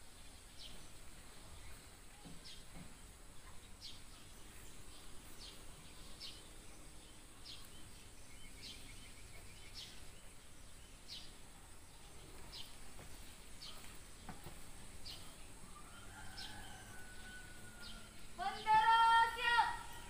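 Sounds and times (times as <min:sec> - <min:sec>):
faint rapid bird trill: 0:00.0 - 0:20.0.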